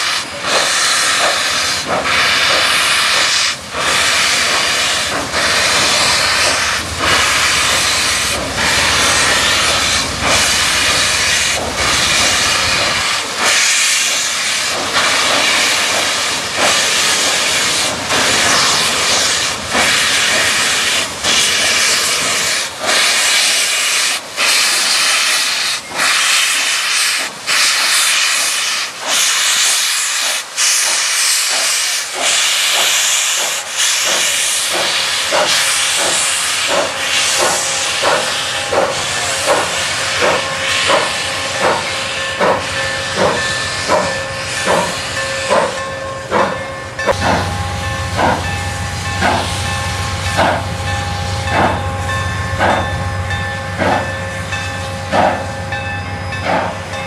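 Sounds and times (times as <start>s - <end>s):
steam hissing from locomotives: 0.0s - 57.0s.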